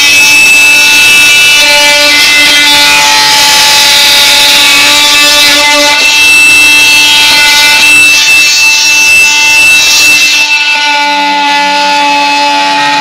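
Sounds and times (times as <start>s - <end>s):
multi-tool cutting metal whine: 0.0s - 13.0s.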